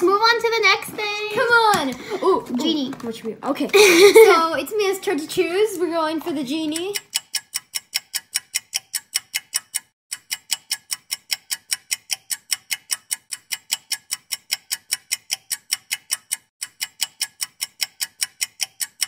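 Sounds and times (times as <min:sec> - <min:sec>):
rapid clock-like ticking: 0:00.0 - 0:19.0.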